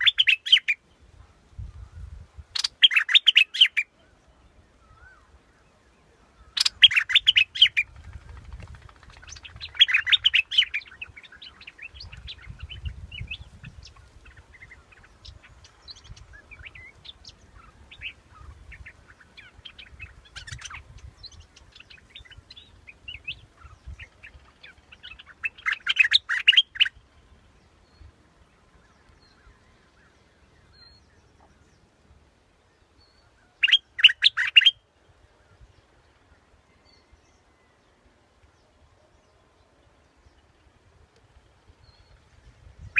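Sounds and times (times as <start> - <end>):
faint bird chirps: 0.0 - 42.9.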